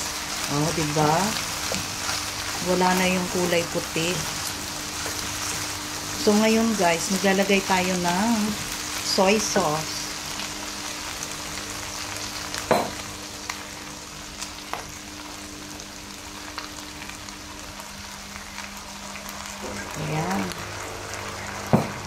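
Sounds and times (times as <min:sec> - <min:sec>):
food sizzling in oil: 0:00.0 - 0:22.0
low steady hum: 0:00.0 - 0:22.0.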